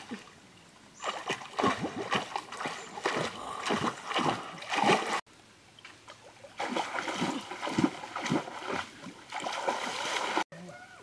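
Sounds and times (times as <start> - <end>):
water splashing: 0.0 - 0.4, 1.0 - 10.5.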